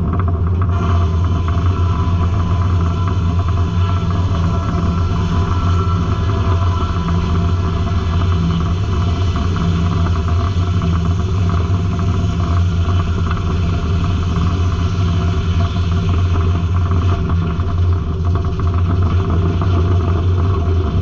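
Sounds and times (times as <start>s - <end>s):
circular sawmill humming: 0.0s - 21.0s.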